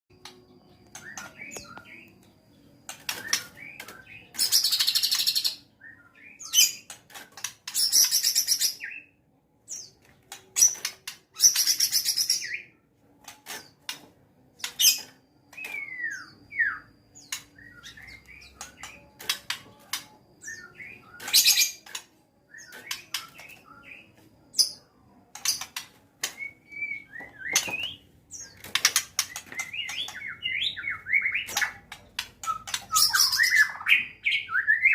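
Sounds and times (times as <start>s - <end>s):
bird whistled song: 0.1s - 6.9s, 10.6s - 12.8s, 14.6s - 24.8s, 25.4s - 28.6s, 29.2s - 34.9s.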